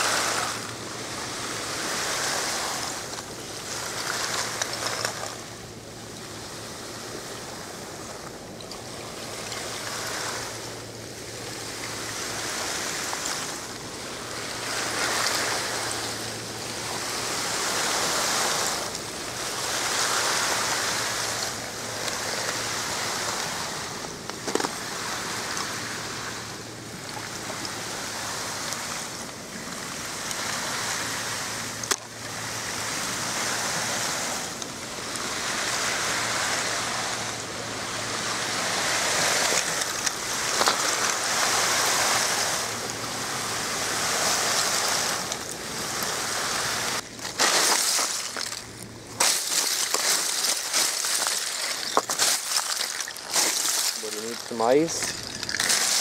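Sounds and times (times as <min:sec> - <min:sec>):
water washing in waves: 0:00.0 - 0:56.0.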